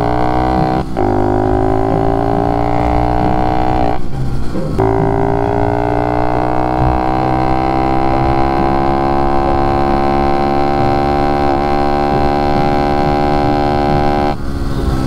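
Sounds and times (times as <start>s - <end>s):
motorbike engine at high revs: 0.0s - 15.0s.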